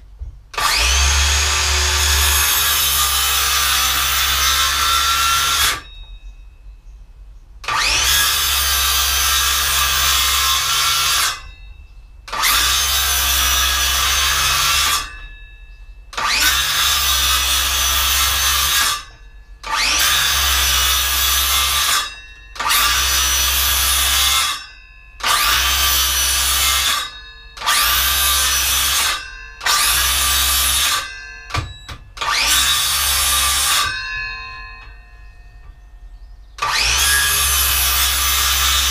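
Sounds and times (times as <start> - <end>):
circular saw cutting wood: 0.6 - 6.0, 7.6 - 11.6, 12.3 - 15.3, 16.2 - 34.9, 36.6 - 38.9.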